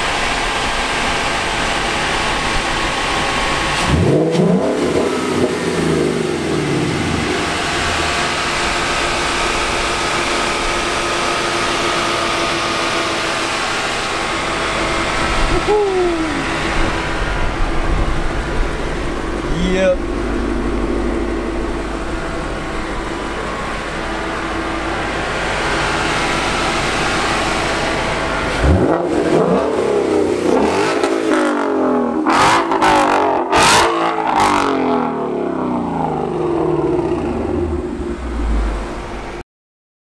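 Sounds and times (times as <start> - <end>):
car engine revving: 0.0 - 39.4.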